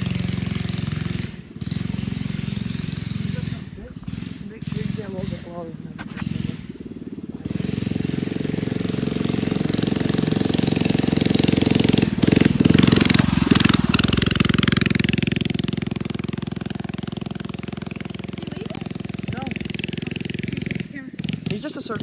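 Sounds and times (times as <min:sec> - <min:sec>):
mini bike engine running hard: 0:00.0 - 0:22.0.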